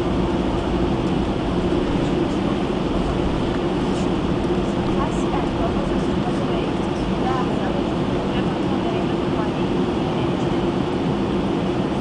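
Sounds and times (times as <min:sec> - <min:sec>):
rumble of rolling wheels: 0:00.0 - 0:11.1
jet engines droning: 0:00.0 - 0:12.0.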